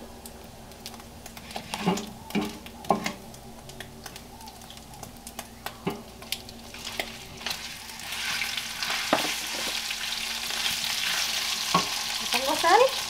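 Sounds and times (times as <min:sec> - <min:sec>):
meat sizzling in oil: 0:00.7 - 0:13.0.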